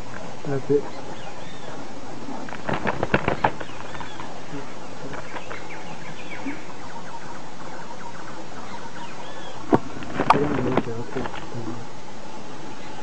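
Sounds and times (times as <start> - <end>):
birds chirping and whistling: 0.0 - 13.0
steady background hiss: 0.0 - 13.0.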